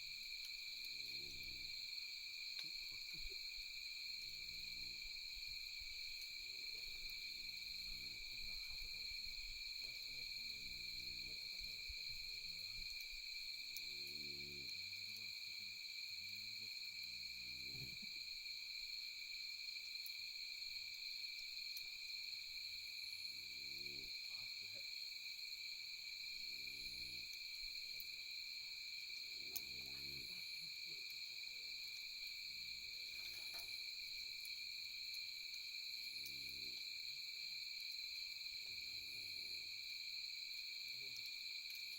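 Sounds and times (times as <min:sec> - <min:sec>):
campfire crackles: 0:00.0 - 0:41.9
crickets trilling: 0:00.0 - 0:41.9.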